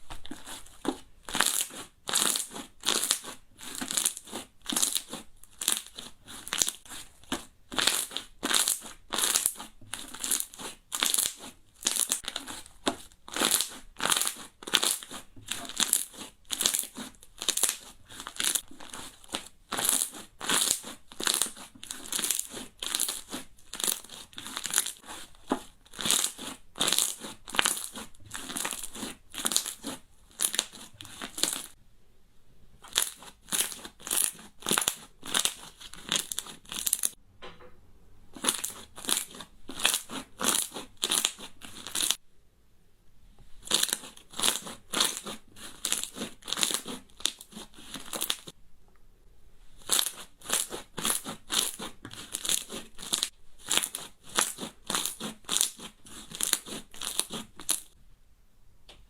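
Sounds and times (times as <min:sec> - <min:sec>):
slime crackling and popping: 0:01.3 - 0:06.8, 0:07.7 - 0:25.0, 0:25.6 - 0:31.8, 0:32.8 - 0:37.2, 0:38.4 - 0:42.2, 0:43.6 - 0:48.5, 0:49.8 - 0:58.0.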